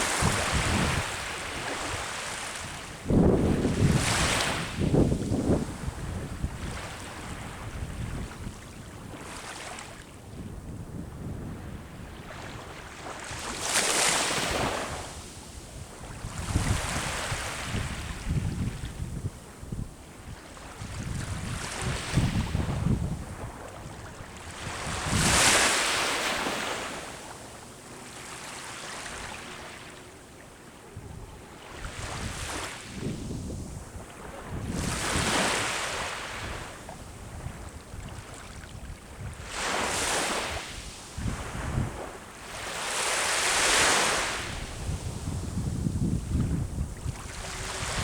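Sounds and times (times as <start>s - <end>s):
wind rumbling on microphone: 0.0s - 9.6s, 10.2s - 26.7s, 30.9s - 42.8s, 43.5s - 48.0s
sea waves breaking on shore: 0.0s - 10.4s, 11.1s - 48.0s.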